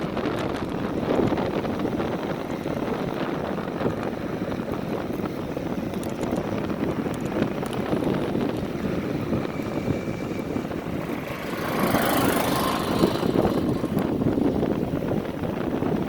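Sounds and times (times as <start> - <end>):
bike rolling noise: 0.0 - 16.0
wind rumble: 0.0 - 16.0.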